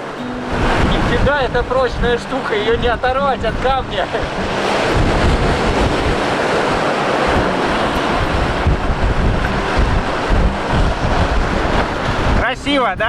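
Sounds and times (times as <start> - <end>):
ocean surf on rocky shore: 0.0 - 13.0
wind buffeting microphone: 0.0 - 13.0.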